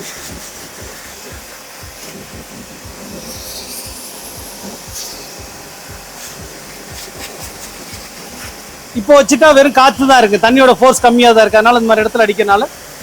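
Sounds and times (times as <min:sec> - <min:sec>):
hiss of water spray: 0:00.0 - 0:13.0
pump pulsing: 0:00.0 - 0:13.0.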